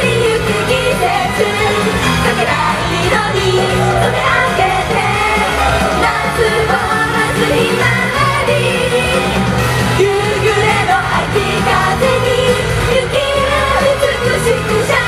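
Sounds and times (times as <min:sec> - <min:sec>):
female group singing pop: 0:00.0 - 0:15.0
loud pop backing track: 0:00.0 - 0:15.0.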